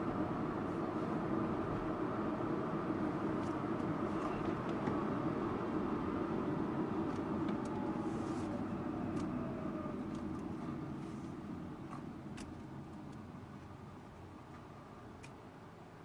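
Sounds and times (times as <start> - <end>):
car cabin road noise: 0.0 - 16.0.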